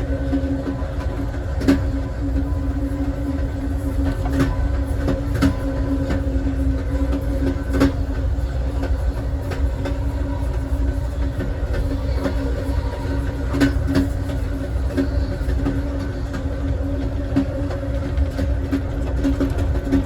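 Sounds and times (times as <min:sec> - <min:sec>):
constant hum: 0:00.0 - 0:20.0
train wheels rumbling on rail: 0:00.0 - 0:20.0.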